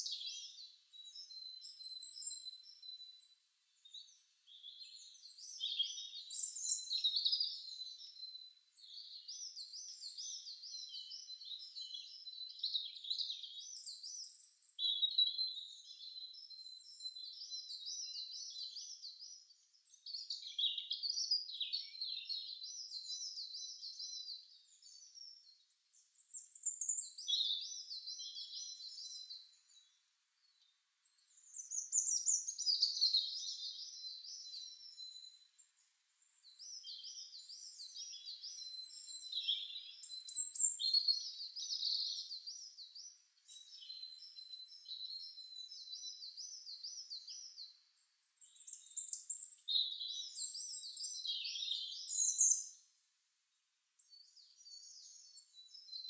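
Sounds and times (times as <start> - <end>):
songbirds singing: 0.0 - 53.0, 54.0 - 56.0.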